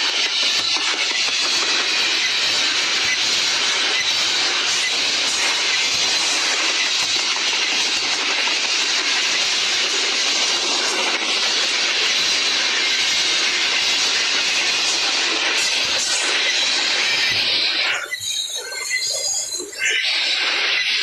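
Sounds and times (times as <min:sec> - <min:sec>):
train wheels hissing on rails: 0:00.0 - 0:21.0.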